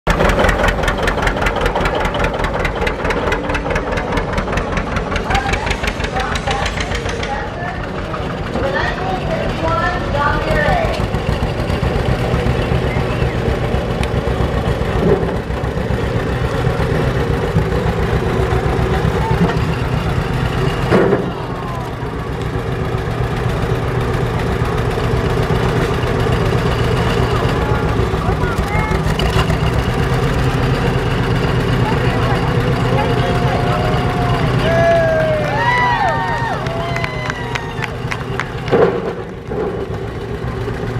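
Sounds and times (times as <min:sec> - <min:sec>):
tractor engine popping exhaust: 0:00.1 - 0:40.9.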